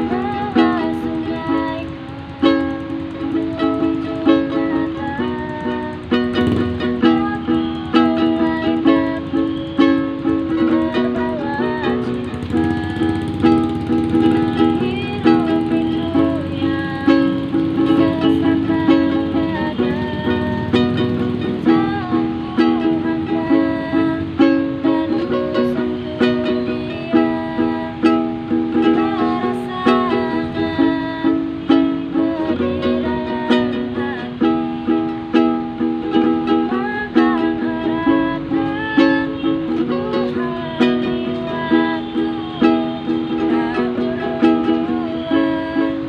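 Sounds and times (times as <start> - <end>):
strummed ukulele: 0.0 - 46.0.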